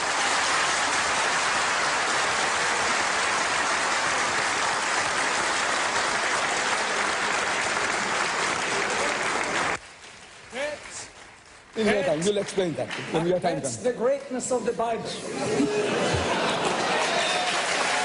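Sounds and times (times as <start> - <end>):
large audience applauding: 0.0 - 13.8, 15.6 - 18.0.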